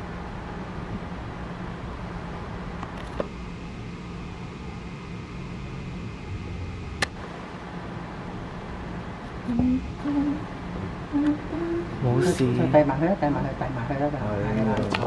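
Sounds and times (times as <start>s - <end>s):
faint constant tone: 0.0s - 15.0s
low background hum: 0.0s - 15.0s.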